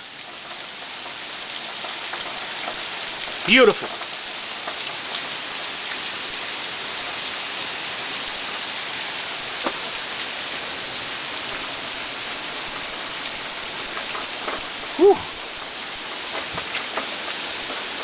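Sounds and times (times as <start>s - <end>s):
heavy rain pattering: 0.0s - 18.0s.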